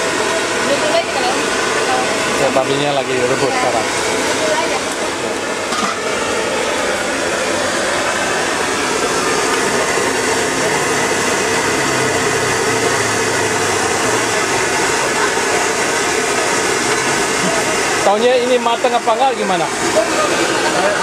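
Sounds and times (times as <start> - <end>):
gas burner roaring: 0.0 - 21.0
noodles cooking in wok: 0.0 - 21.0.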